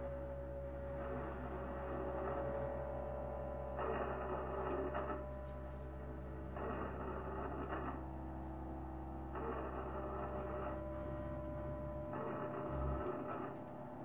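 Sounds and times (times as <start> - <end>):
low drone hum with held tones: 0.0 - 14.0.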